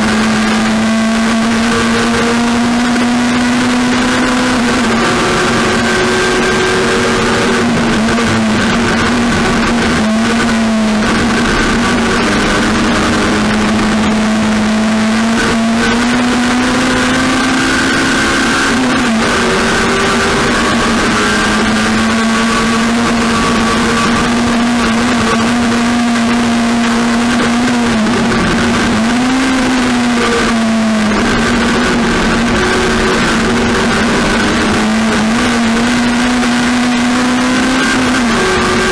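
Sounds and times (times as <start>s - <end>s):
race car engine at high revs: 0.0s - 38.9s.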